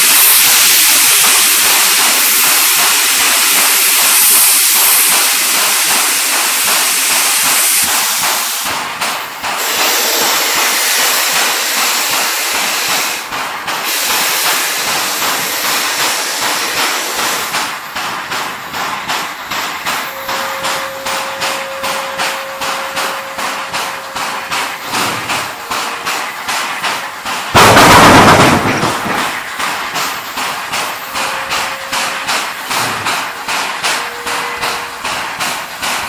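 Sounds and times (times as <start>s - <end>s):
locomotive exhaust beats: 0.0s - 36.0s
steam locomotive hissing: 0.0s - 36.0s.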